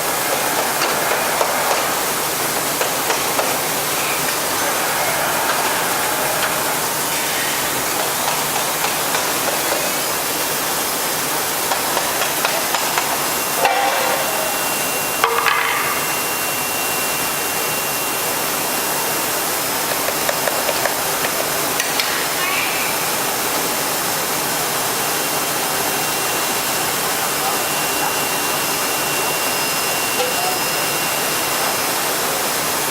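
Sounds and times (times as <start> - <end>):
cnc router hissing: 0.0 - 32.9.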